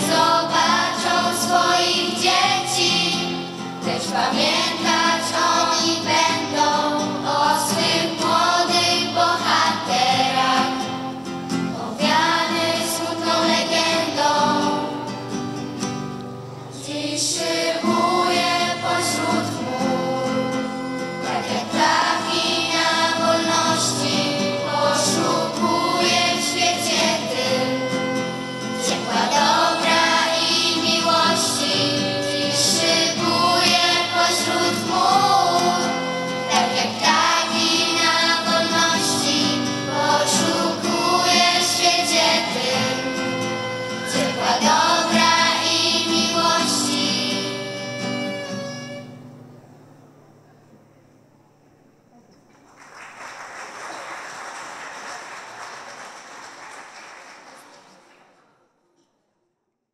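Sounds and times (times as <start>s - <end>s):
children's choir singing: 0.0s - 49.1s.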